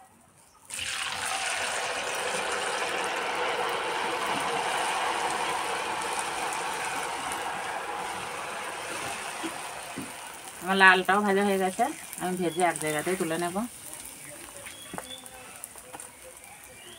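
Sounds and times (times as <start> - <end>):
sizzling in hot oil: 0.4 - 16.9.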